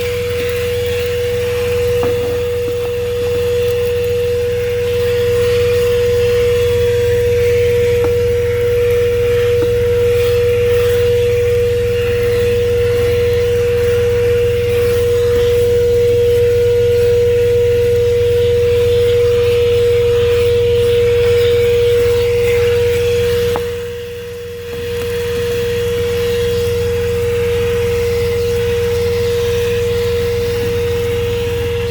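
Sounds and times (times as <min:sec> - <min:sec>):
handheld vacuum motor whine: 0:00.0 - 0:31.9
truck engine idling: 0:00.0 - 0:31.9.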